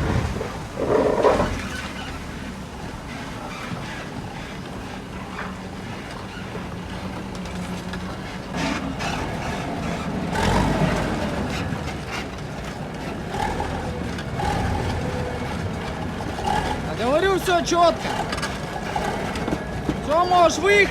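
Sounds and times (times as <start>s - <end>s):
heavy diesel engine running: 0.0s - 20.9s.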